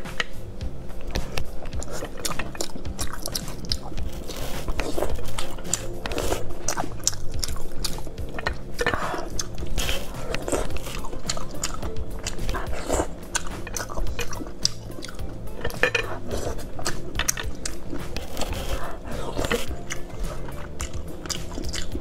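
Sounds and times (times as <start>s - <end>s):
background music: 0.0s - 22.0s
slurping and chewing oysters: 0.0s - 22.0s
mouth smacks: 1.1s - 22.0s.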